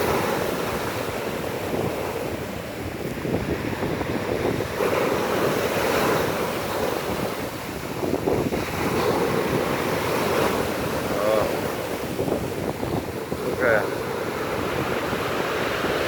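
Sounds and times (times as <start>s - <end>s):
storm surf breaking on shore: 0.0s - 16.0s
wind buffeting microphone: 0.0s - 16.0s.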